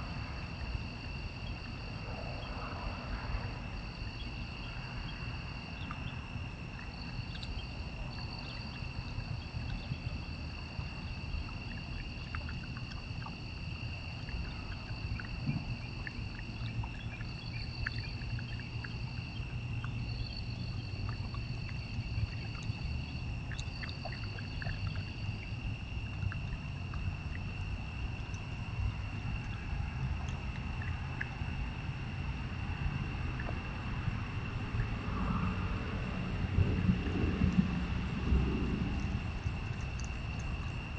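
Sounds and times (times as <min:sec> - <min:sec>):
constant low rumble: 0:00.0 - 0:40.9
insects trilling: 0:00.0 - 0:40.9.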